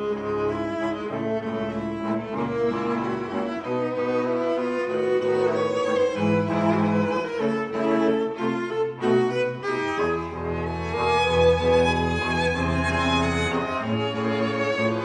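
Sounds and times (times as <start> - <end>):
cello and violin held notes: 0.0 - 15.0.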